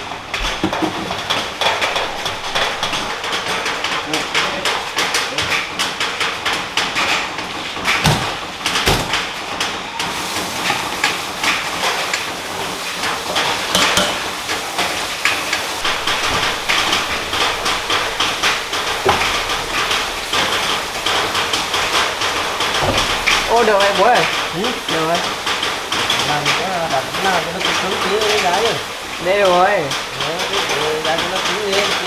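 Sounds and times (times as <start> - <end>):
rapid irregular knocking and clicking: 0.0 - 32.0
steady noisy background: 0.0 - 32.0.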